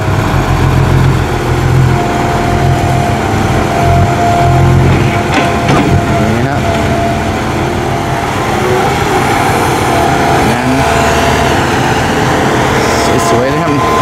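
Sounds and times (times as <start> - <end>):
diesel engine running: 0.0 - 14.0
steady tone: 0.0 - 14.0.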